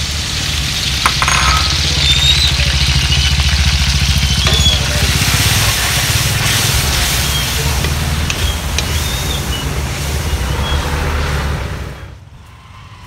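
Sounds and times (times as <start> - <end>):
liquid sizzling in hot oil: 0.0 - 10.8.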